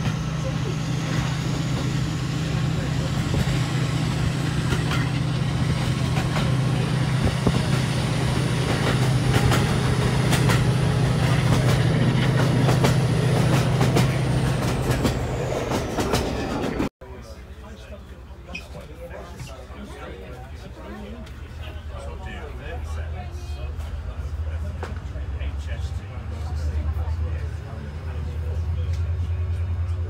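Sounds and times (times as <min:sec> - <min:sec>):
locomotive engine drone: 0:00.0 - 0:17.4, 0:21.1 - 0:30.0.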